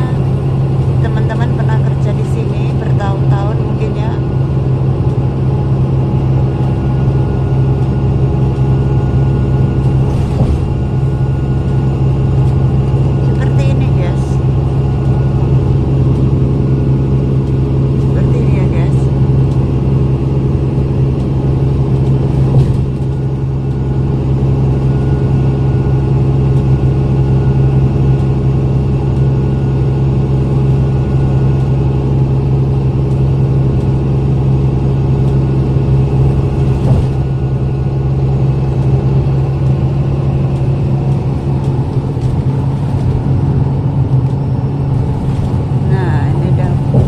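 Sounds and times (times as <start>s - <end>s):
bus engine and road noise: 0.0s - 47.0s.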